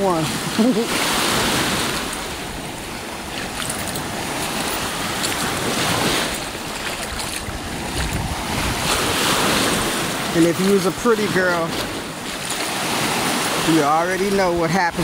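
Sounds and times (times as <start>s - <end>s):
waves washing onto sandy shore: 0.0s - 15.0s
wind gusting on microphone: 0.0s - 15.0s.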